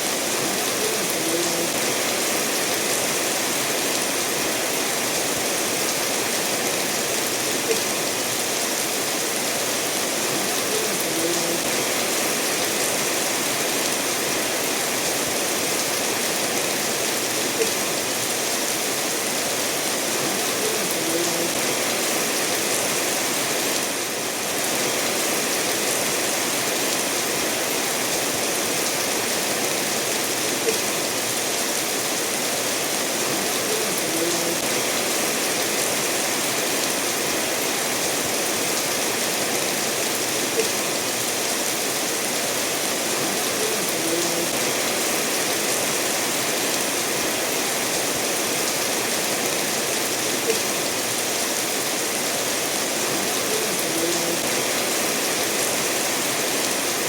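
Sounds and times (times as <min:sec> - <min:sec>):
steady rainfall: 0:00.0 - 0:57.0
stream flowing over stones: 0:00.0 - 0:57.0.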